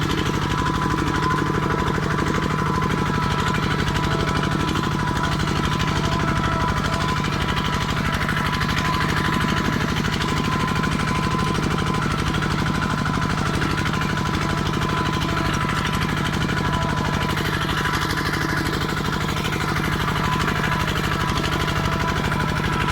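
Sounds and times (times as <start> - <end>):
tractor diesel engine clattering: 0.0 - 22.9.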